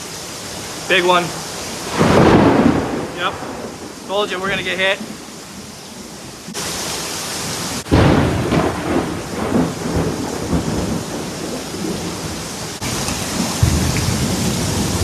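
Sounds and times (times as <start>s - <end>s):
steady rain: 0.0s - 15.0s
thunder rumbling: 0.8s - 6.6s, 7.7s - 15.0s.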